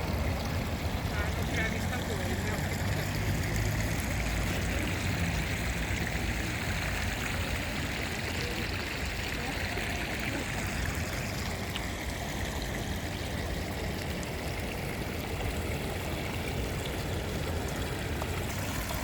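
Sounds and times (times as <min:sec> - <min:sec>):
stream water rushing: 0:00.0 - 0:19.0.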